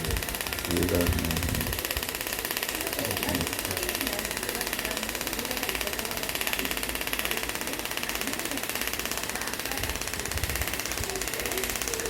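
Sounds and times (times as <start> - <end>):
tattoo machine buzzing: 0.0 - 12.0.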